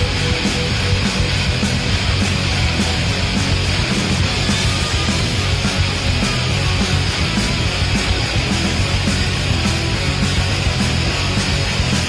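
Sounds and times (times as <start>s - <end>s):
noise rock music: 0.0s - 12.0s.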